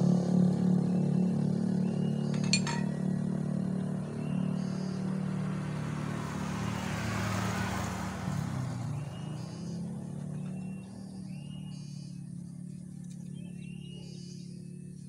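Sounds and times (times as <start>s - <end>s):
motor vehicle passing: 0.0s - 14.9s.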